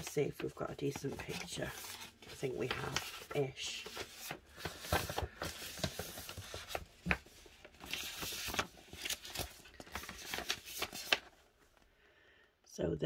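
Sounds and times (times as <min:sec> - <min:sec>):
rustling and crinkling: 0:00.0 - 0:11.9.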